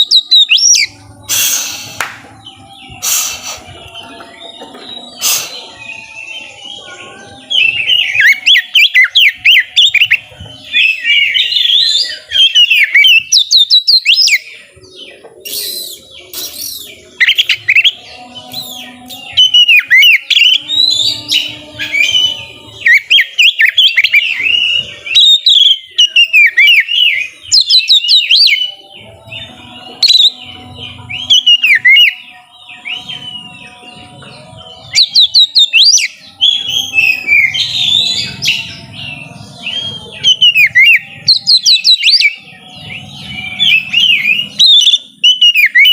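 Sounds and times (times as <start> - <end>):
magpie-robin singing whistled notes: 0.0 - 45.9.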